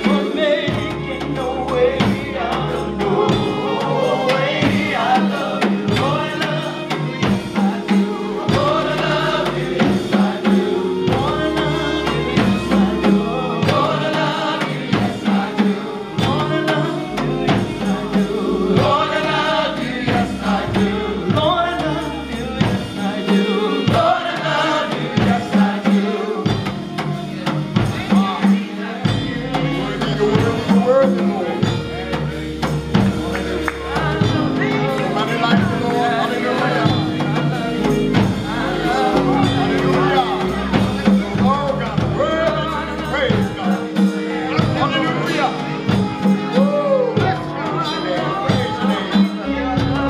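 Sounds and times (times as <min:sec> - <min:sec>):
band with bass and percussion: 0:00.0 - 0:50.0
choir singing gospel: 0:00.0 - 0:50.0.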